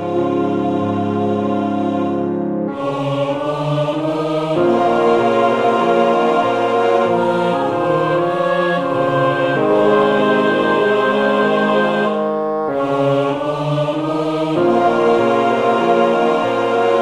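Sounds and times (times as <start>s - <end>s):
small orchestra playing: 0.0s - 17.0s
soprano and tenor singing duet: 0.0s - 17.0s.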